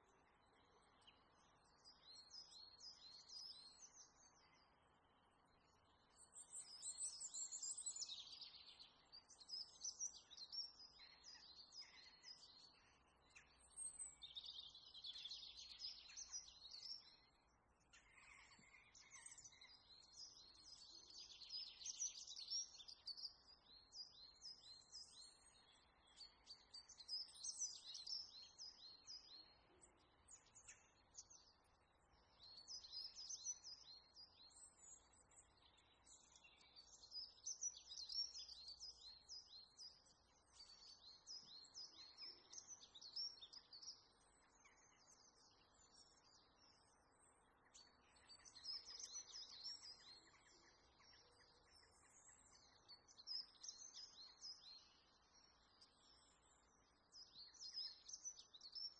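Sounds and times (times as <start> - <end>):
faint birds chirping: 0.0 - 58.9.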